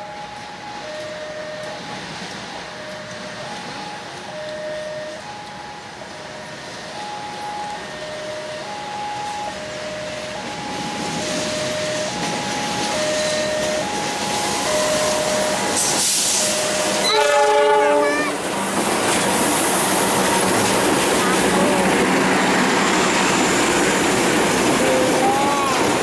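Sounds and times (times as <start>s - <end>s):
diesel locomotive approaching: 0.0s - 26.0s
level-crossing two-tone warning signal: 0.0s - 26.0s.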